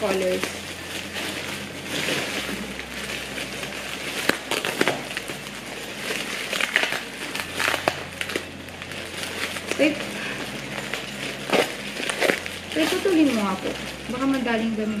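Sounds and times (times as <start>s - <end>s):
plastic packaging crinkling: 0.0s - 15.0s
sharp crackles: 0.0s - 15.0s.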